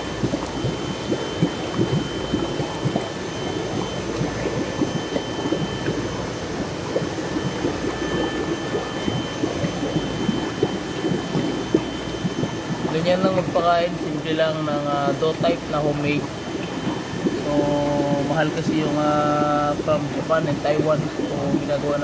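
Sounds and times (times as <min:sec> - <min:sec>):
faint high whine: 0:00.0 - 0:22.0
water sloshing and splashing: 0:00.0 - 0:22.0.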